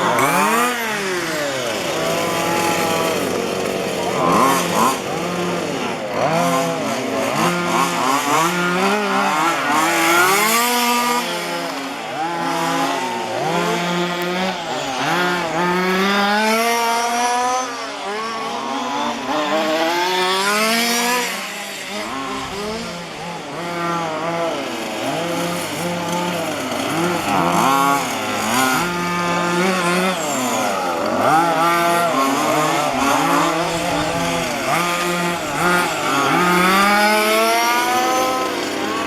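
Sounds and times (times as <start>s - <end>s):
small two-stroke engines revving: 0.0s - 39.0s.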